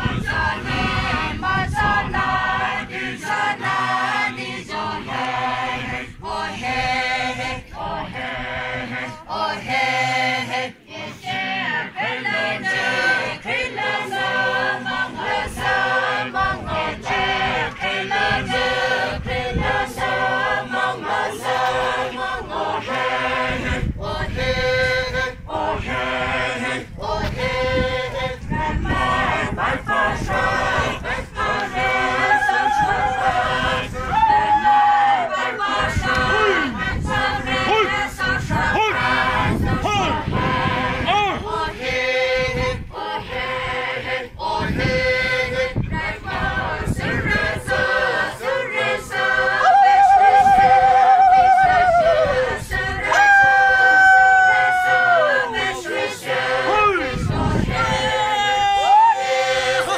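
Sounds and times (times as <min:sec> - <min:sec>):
group of voices chanting: 0:00.0 - 0:59.9.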